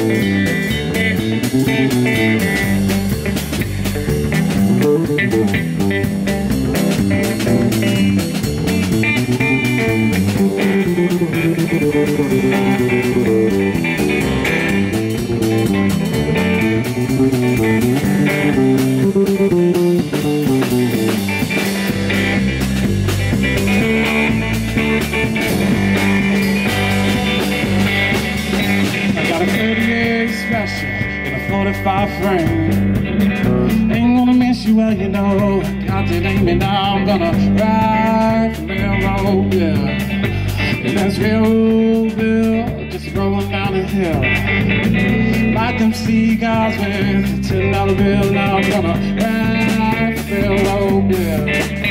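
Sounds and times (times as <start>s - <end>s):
drums: 0.0s - 51.9s
electric bass: 0.0s - 51.9s
electric guitar lead: 0.0s - 51.9s.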